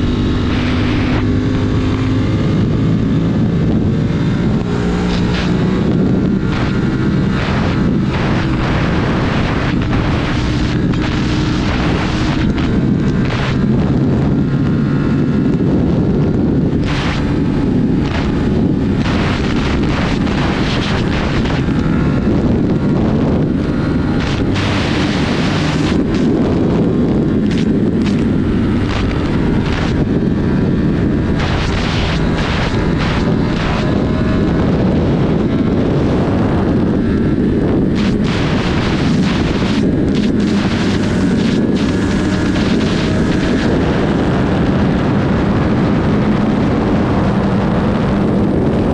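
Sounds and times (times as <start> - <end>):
motorcycle engine at speed: 0.0 - 48.9
wind on microphone: 0.0 - 48.9.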